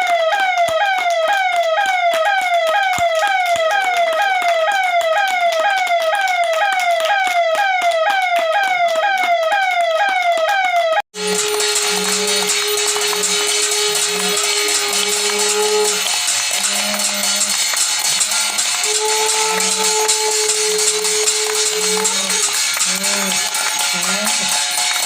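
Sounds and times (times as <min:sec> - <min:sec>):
siren wailing: 0:00.0 - 0:25.0.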